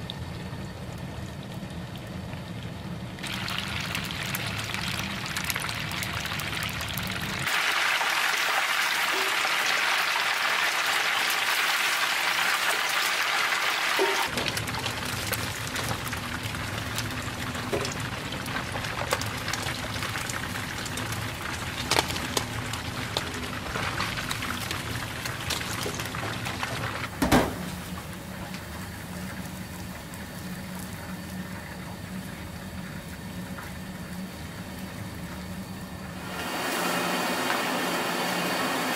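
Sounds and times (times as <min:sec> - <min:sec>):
fish sizzling in hot oil: 0:03.2 - 0:38.9.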